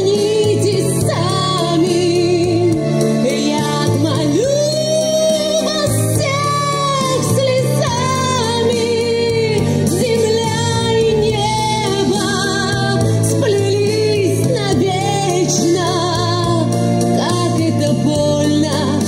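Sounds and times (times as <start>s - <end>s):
recorded accompaniment over loudspeaker: 0.0s - 19.0s
woman singing ballad: 0.0s - 19.0s.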